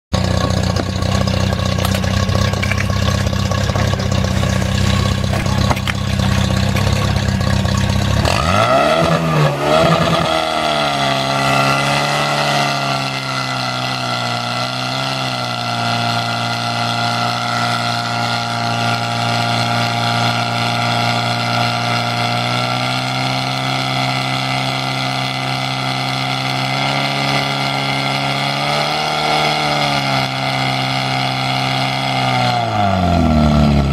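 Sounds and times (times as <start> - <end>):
pump engine revving: 0.1 - 33.9.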